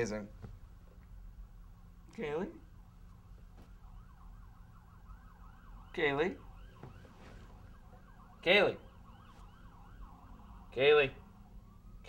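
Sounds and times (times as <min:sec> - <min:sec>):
swooping siren wail: 0:01.3 - 0:12.0
fast warbling siren tone: 0:01.5 - 0:12.0.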